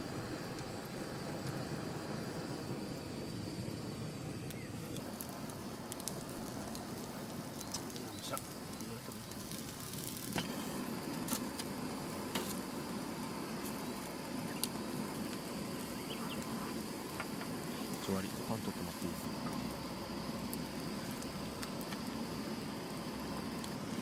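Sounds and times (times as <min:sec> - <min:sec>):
fire crackling: 0:00.0 - 0:24.0
food sizzling: 0:00.0 - 0:24.0.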